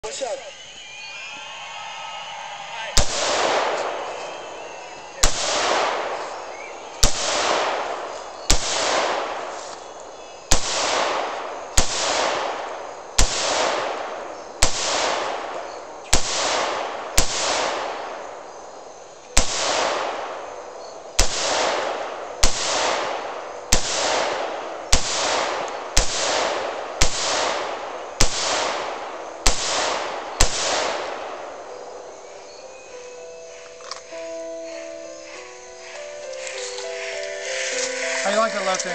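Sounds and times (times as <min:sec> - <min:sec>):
rifle shots echoing: 0:02.9 - 0:18.6, 0:19.3 - 0:32.8, 0:33.4 - 0:38.9.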